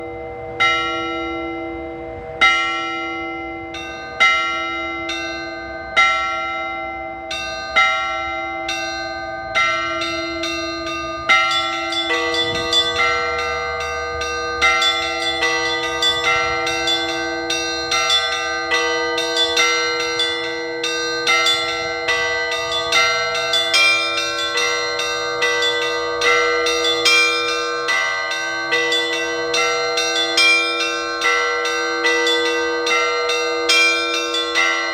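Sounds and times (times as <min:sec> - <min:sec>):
deep church bell ringing: 0:00.0 - 0:34.9
higher church bells ringing: 0:00.0 - 0:34.9.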